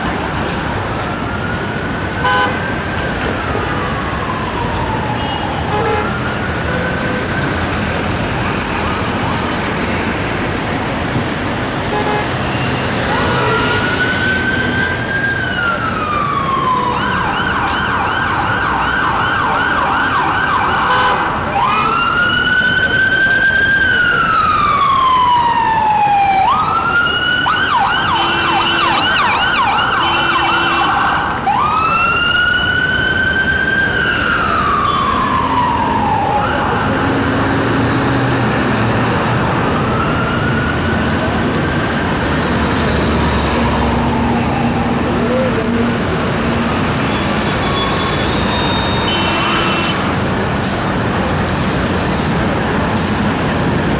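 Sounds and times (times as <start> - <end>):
street traffic noise: 0.0 - 53.9
emergency siren wailing and yelping: 0.1 - 10.1, 12.4 - 50.7.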